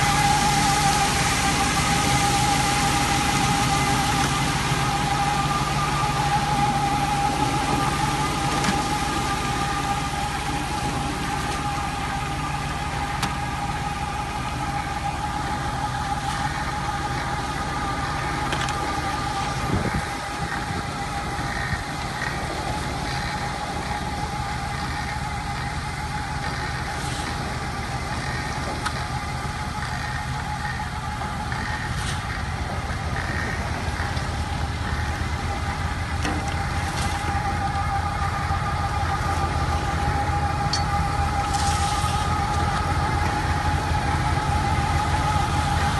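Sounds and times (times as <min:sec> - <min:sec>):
machine whine: 0:00.0 - 0:45.9
tractor engine running: 0:00.0 - 0:45.9.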